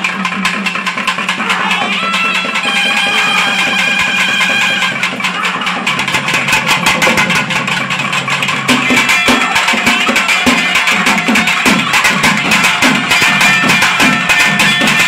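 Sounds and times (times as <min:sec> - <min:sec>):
fast steady drumming: 0:00.0 - 0:15.0.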